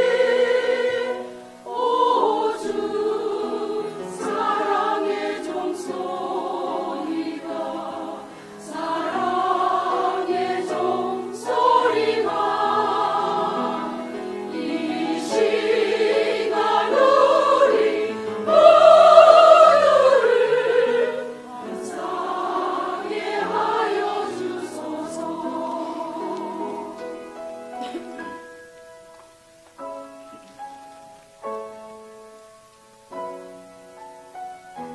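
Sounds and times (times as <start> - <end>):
church choir singing a hymn: 0.0 - 28.3.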